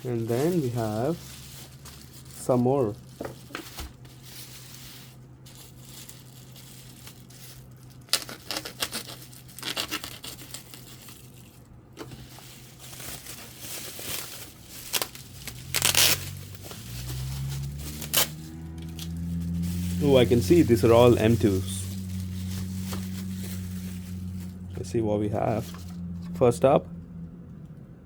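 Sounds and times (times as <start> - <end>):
packaging tearing and crinkling: 0.0 - 24.7.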